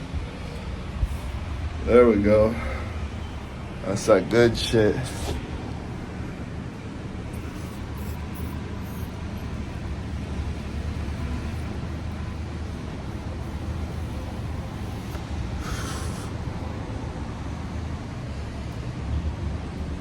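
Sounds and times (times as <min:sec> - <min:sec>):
low rumble with hum: 0:00.0 - 0:20.0.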